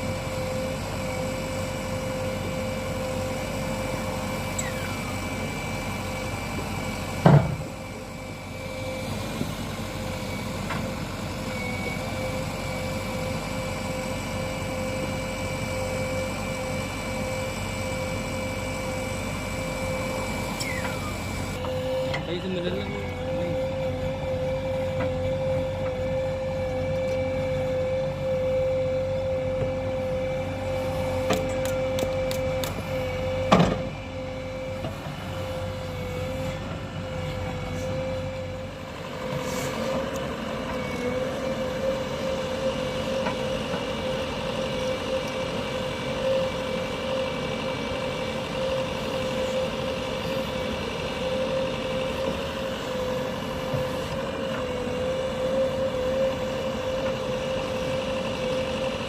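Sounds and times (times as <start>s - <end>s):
diesel engine running: 0.0s - 59.0s
steady high whine: 0.0s - 59.0s.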